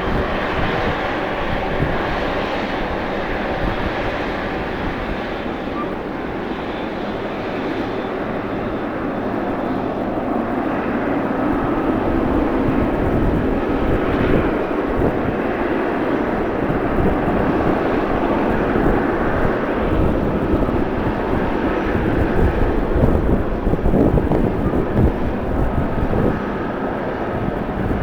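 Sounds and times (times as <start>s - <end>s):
faint high engine whine: 0.0s - 28.0s
jet engines running: 0.0s - 28.0s
wind buffeting microphone: 0.0s - 28.0s.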